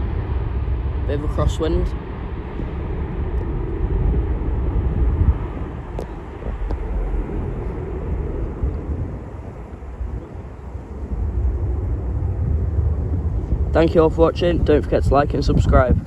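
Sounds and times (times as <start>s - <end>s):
jet engines deep rumble: 0.0s - 16.0s.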